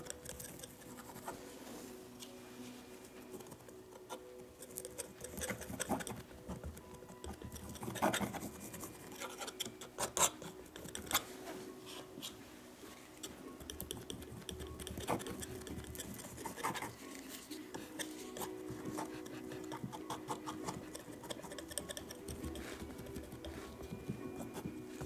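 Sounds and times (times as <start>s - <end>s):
palette knife scraping paint: 0.0s - 2.0s, 3.3s - 12.4s, 13.2s - 25.0s.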